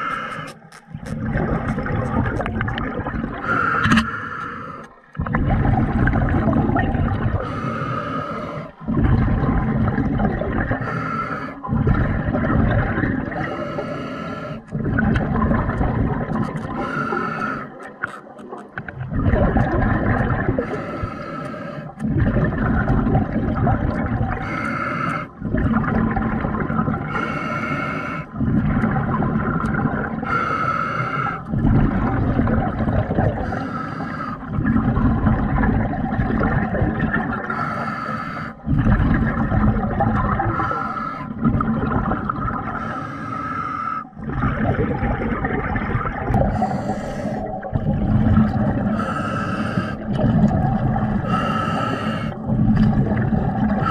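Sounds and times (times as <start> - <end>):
diver breathing underwater: 0.0 - 2.5, 3.2 - 18.3, 20.2 - 23.4, 24.3 - 25.8, 27.0 - 34.9, 36.6 - 53.9
exhaled bubbles: 0.0 - 53.9.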